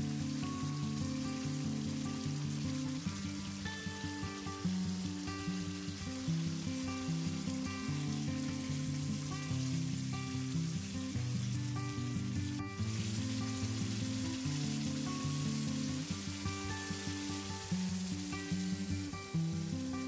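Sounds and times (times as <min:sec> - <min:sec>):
gravy sizzling in a wok: 0:00.0 - 0:20.0.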